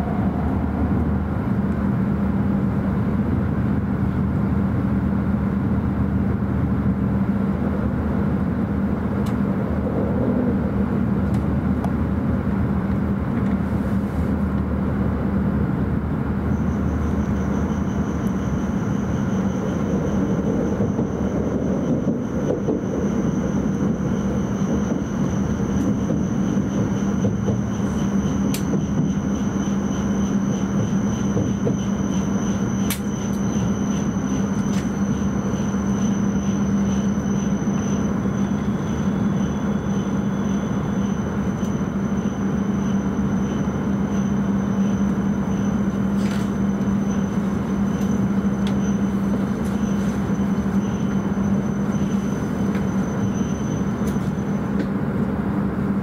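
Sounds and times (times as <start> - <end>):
high whine: 0.0 - 3.4, 7.9 - 13.2, 16.2 - 54.9
train cabin rush and rumble: 0.0 - 56.0.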